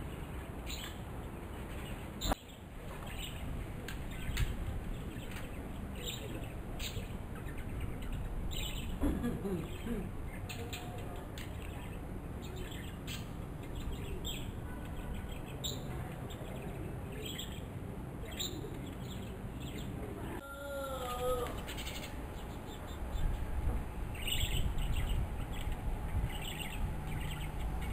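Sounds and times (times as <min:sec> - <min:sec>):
low outdoor rumble: 0:00.0 - 0:27.9
small birds chirping: 0:00.0 - 0:27.9.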